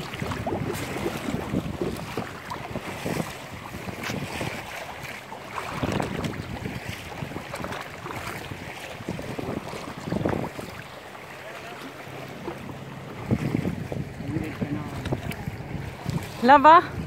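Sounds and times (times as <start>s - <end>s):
wind buffeting microphone: 0.0s - 11.1s, 12.0s - 17.0s
water lapping against a canoe: 0.0s - 17.0s.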